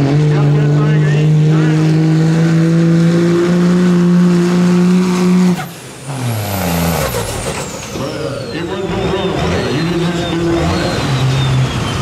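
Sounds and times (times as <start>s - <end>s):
diesel truck engine: 0.0s - 12.0s
high turbo whine: 0.0s - 12.0s.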